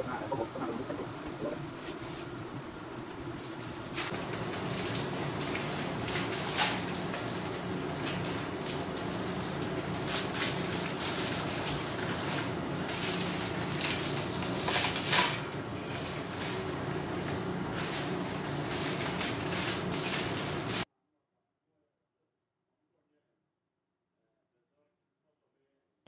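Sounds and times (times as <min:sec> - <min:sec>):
range hood fan running: 0:00.0 - 0:20.9.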